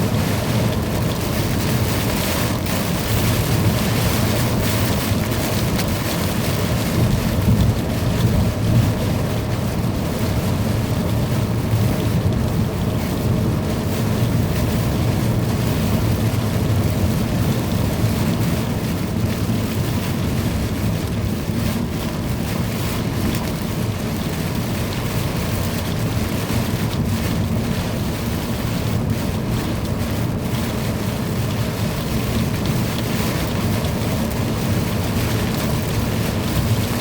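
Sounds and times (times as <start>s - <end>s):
heavy rain downpour: 0.0s - 37.0s
wind buffeting the microphone: 0.0s - 37.0s.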